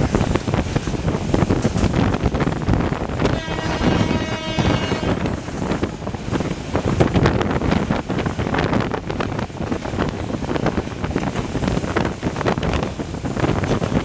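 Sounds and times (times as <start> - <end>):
train running noise: 0.0 - 14.0
wind buffeting microphone: 0.0 - 14.0.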